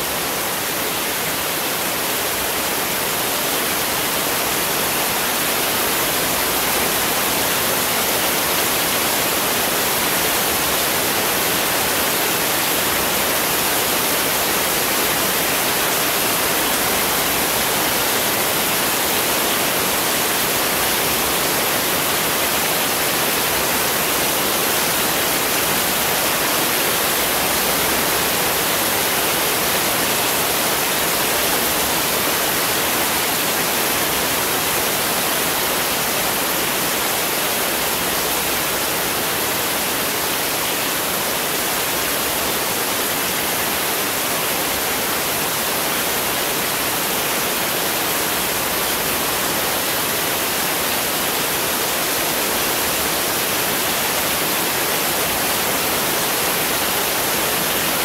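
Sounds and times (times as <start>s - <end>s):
heavy rain on pavement: 0.0s - 58.0s.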